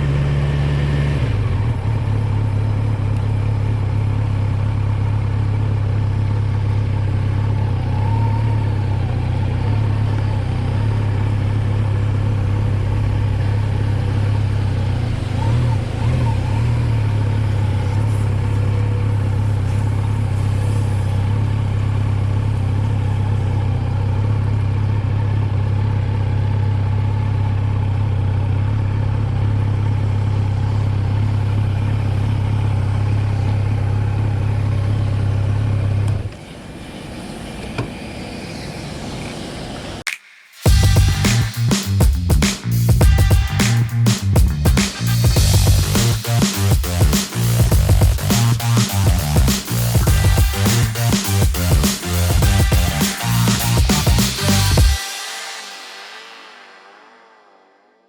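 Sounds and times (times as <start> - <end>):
motorcycle engine running: 0.0 - 36.3, 40.7 - 55.2.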